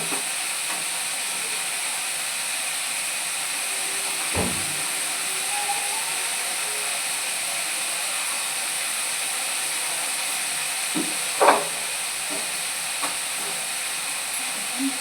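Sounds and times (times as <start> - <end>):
food hissing in a pot: 0.0 - 15.0.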